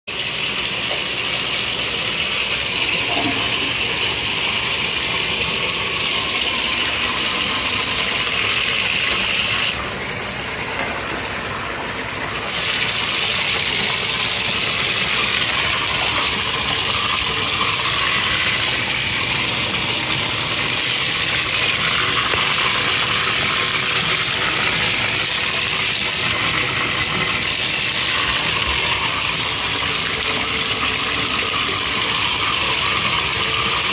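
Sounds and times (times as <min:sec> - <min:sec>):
water running into bathtub: 0:00.1 - 0:33.9.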